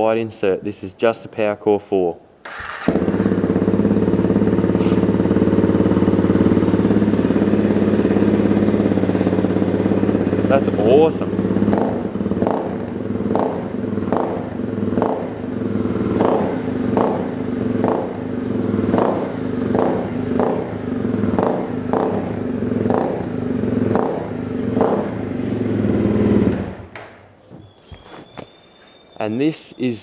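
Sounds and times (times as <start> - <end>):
motorcycle engine running: 2.6 - 26.9.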